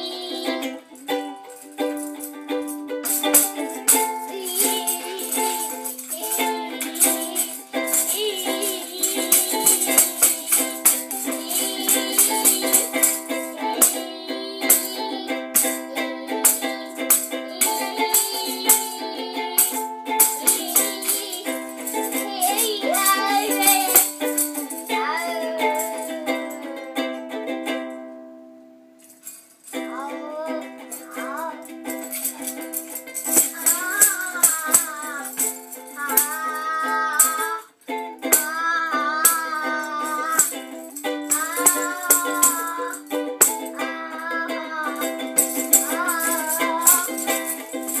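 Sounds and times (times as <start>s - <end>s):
person singing: 0.0s - 27.5s, 29.7s - 48.0s
ukulele strumming: 0.0s - 48.0s
rattle shaking: 0.6s - 26.8s, 29.0s - 29.9s, 30.8s - 48.0s.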